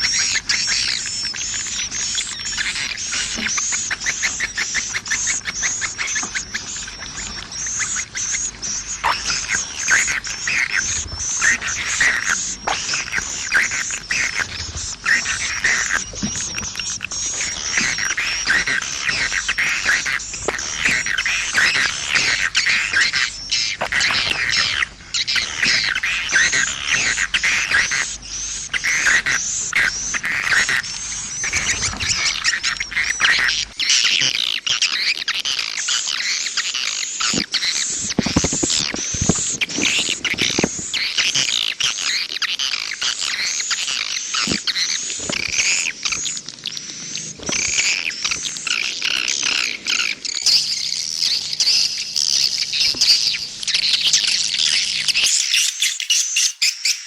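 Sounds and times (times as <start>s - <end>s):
swiftlets chirping and twittering: 0.0s - 57.0s.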